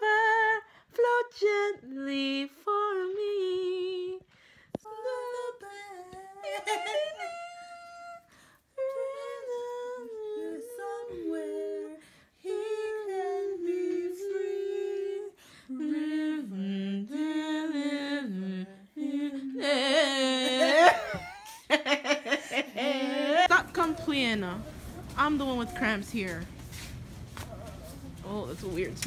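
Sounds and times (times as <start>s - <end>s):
woman singing and humming: 0.0s - 21.4s, 22.7s - 26.5s.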